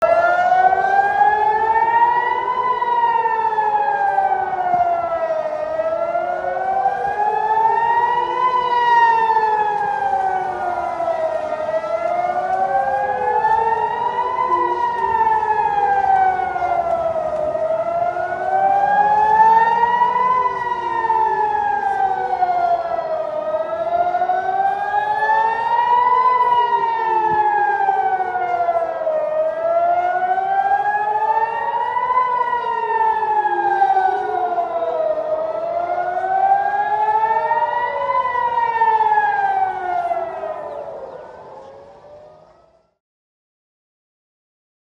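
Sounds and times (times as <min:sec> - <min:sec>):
warning sirens wailing: 0:00.0 - 0:43.0.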